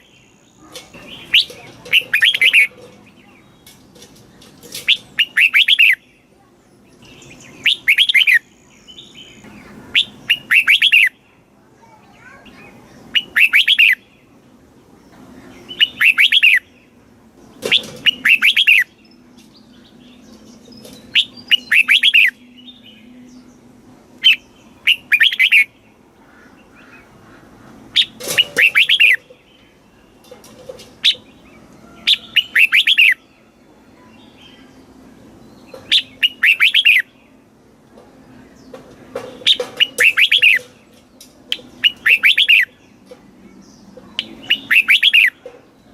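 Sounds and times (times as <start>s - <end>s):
bird chirping: 0.0s - 14.4s, 15.0s - 45.9s.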